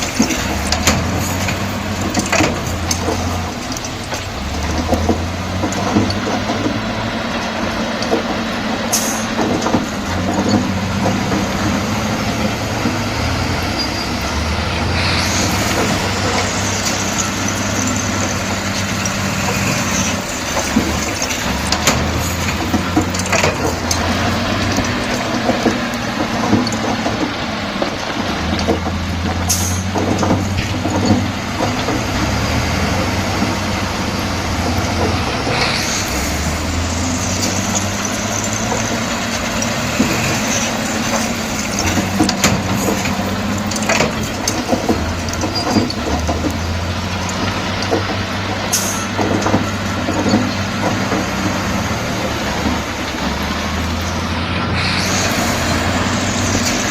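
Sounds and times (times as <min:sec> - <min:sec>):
bulldozer diesel engine working: 0:00.0 - 0:56.9
metallic knocks: 0:00.0 - 0:56.9.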